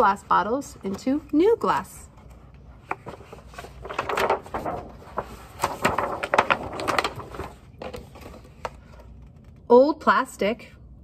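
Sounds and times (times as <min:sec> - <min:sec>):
stiff pages rustling and flapping: 0:00.7 - 0:09.6.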